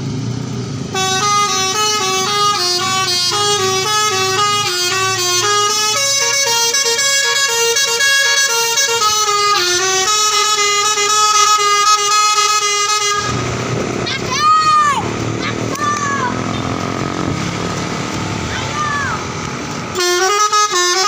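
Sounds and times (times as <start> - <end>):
bus multi-tone horn melody: 0.8 - 21.0.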